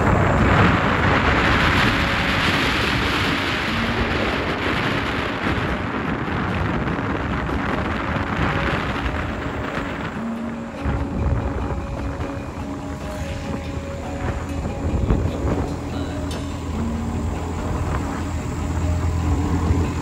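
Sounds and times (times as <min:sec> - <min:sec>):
road noise: 0:00.0 - 0:20.0
vehicle engine running: 0:00.0 - 0:20.0
wind on microphone: 0:00.0 - 0:20.0.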